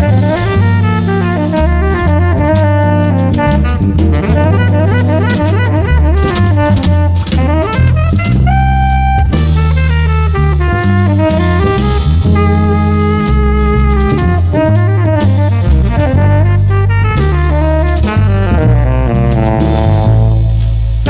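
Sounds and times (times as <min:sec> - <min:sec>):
horn playing long notes: 0:00.0 - 0:20.6
drum kit with cymbals: 0:00.0 - 0:21.0
low bass line: 0:00.0 - 0:21.0.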